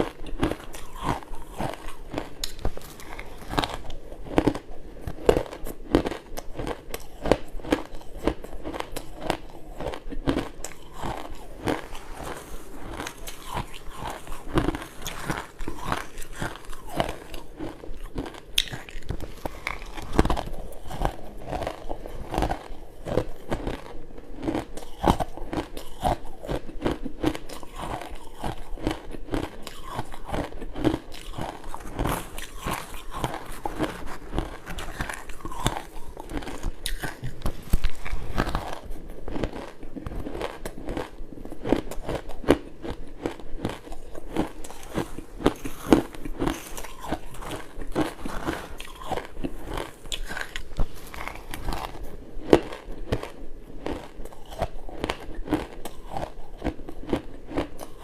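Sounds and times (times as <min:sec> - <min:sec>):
ice crunching while chewed: 0:00.0 - 0:58.0.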